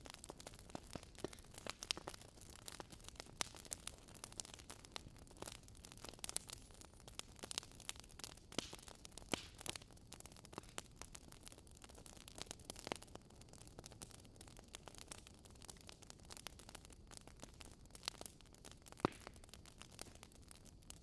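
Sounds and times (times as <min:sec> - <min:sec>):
faint steady hiss: 0:00.0 - 0:21.0
wood fire crackling and popping: 0:00.0 - 0:21.0.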